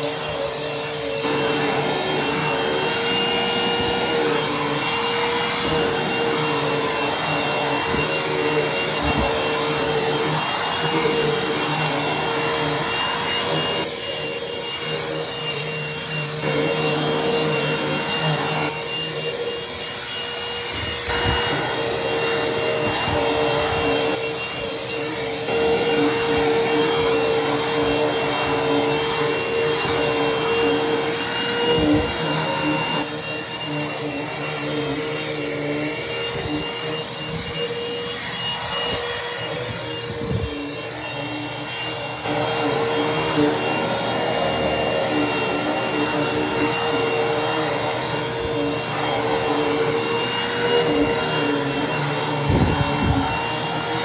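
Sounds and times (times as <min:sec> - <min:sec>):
hand vacuum whine: 0:00.0 - 0:54.0.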